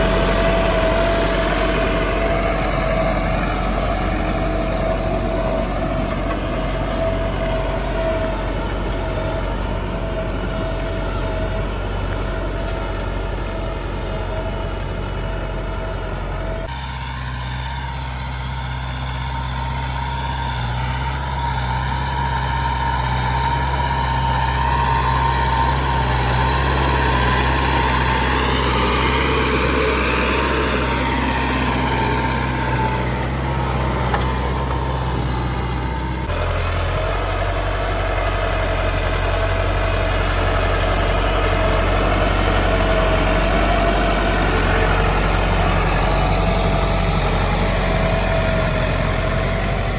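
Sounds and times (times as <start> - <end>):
tractor engines running under load: 0.0 - 49.9.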